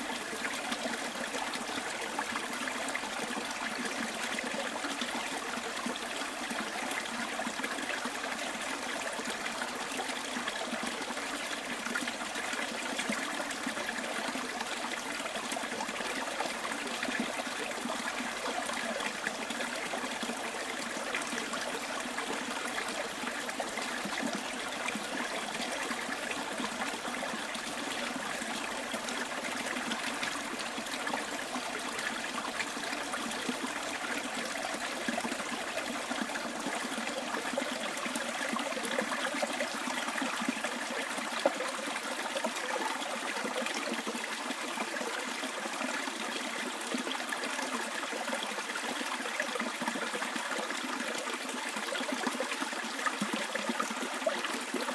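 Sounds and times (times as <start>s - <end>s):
stream babbling over stones: 0.0s - 54.9s.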